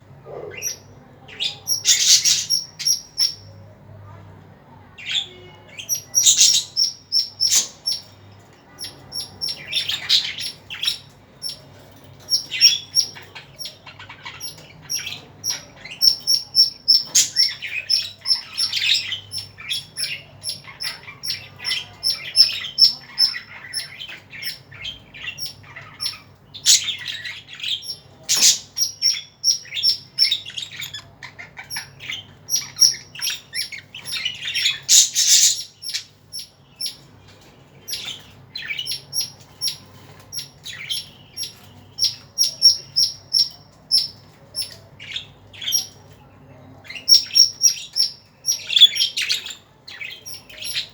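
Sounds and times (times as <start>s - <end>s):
parrots chirping and squawking: 0.2s - 3.5s, 5.0s - 8.1s, 8.8s - 37.0s, 37.8s - 46.1s, 46.8s - 50.9s.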